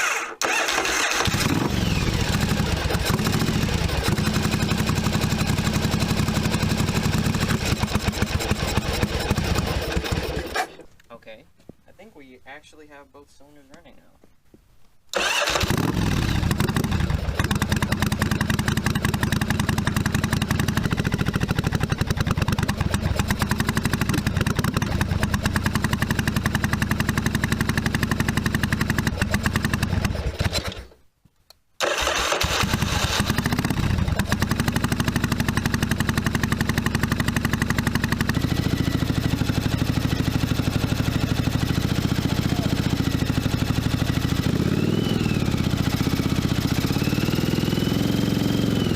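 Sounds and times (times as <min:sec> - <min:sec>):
motorcycle engine running: 0:00.5 - 0:10.6, 0:15.2 - 0:30.8, 0:32.4 - 0:48.9.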